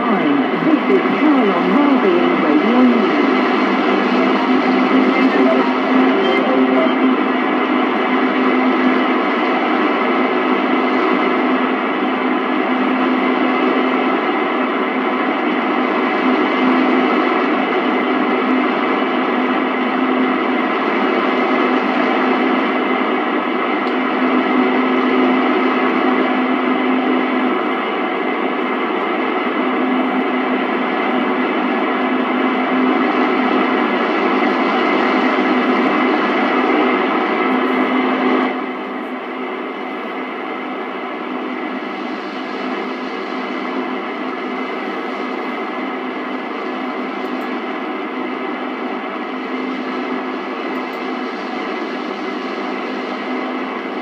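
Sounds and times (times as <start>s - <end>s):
radio static hiss: 0.0s - 54.0s.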